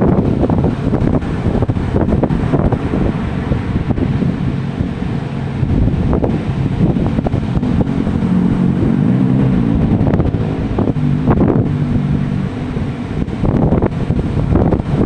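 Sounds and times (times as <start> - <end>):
ocean waves: 0.0 - 15.0
wind buffeting microphone: 0.0 - 15.0.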